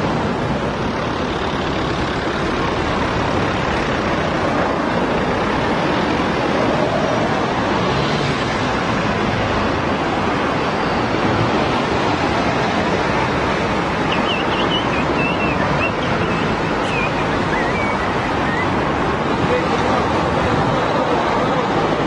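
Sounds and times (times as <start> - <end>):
road traffic roar: 0.0 - 22.0.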